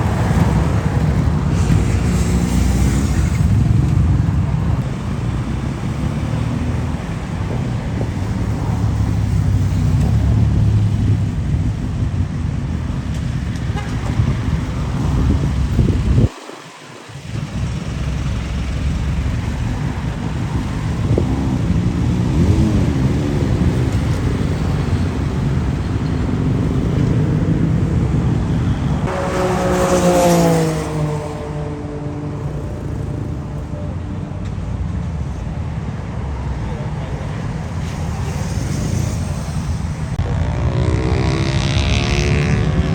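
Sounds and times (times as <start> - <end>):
motorcycle engine rumbling: 0.0 - 16.3, 17.0 - 35.7, 36.5 - 42.9.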